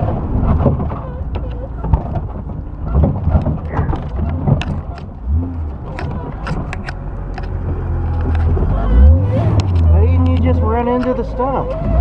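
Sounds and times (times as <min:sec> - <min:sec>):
body and suspension knocks and rattles: 0:00.0 - 0:12.0
truck engine running low: 0:00.0 - 0:12.0.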